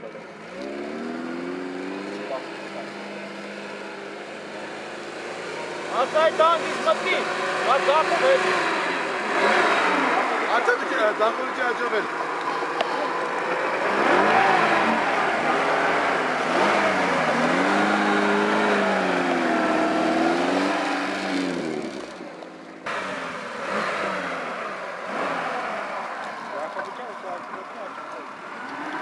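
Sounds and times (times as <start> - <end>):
car engine revving: 0.0 - 29.0
distant engine: 0.0 - 29.0.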